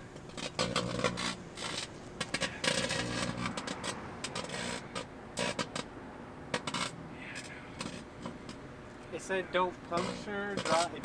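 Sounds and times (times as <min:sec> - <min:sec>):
batteries crackling and sparking: 0:00.0 - 0:05.9, 0:06.5 - 0:11.0.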